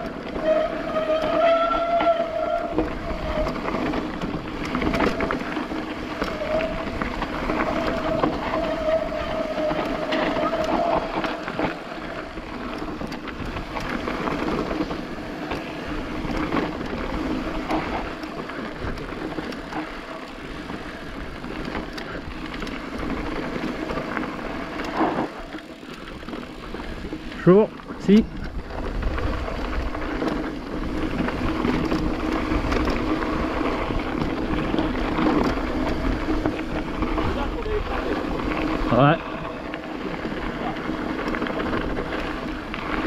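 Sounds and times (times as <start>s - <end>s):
bike tyres on rough trail: 0.0s - 43.0s.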